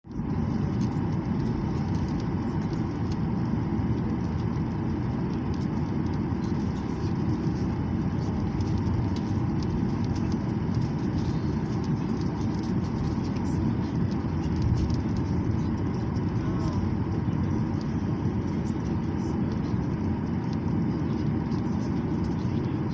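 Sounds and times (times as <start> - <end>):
airplane rumble on runway: 0.0 - 22.9.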